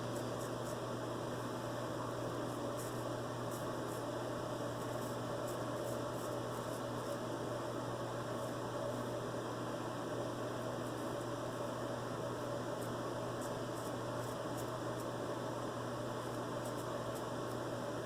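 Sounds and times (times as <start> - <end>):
room noise hum and hiss: 0.0 - 18.0.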